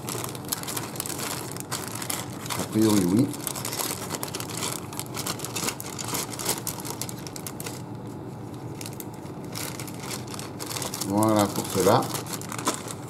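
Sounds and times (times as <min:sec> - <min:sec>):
plastic bag crinkling: 0:00.0 - 0:08.0, 0:08.6 - 0:13.0.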